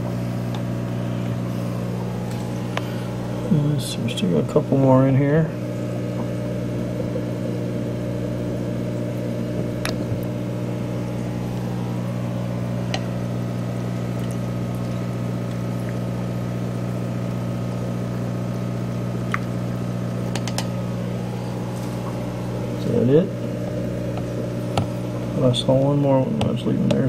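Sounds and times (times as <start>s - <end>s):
aquarium equipment humming: 0.0s - 27.0s.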